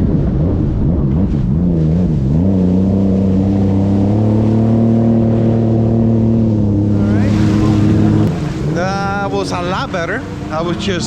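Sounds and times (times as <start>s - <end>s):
jet ski engine revving: 0.0s - 11.0s.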